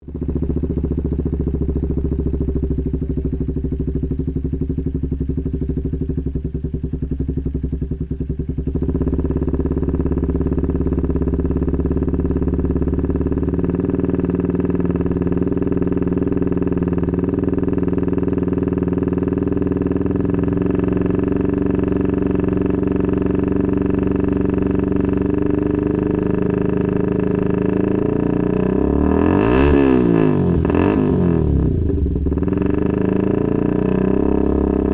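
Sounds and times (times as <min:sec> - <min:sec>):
motorcycle idling: 0:00.0 - 0:34.9.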